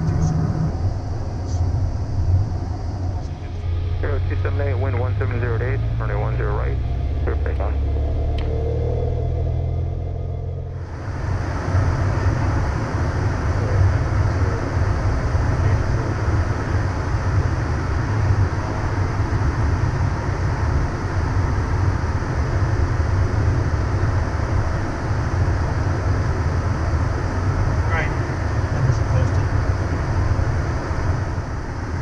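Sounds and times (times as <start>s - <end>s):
jet cockpit engine rumble: 0.0s - 32.0s.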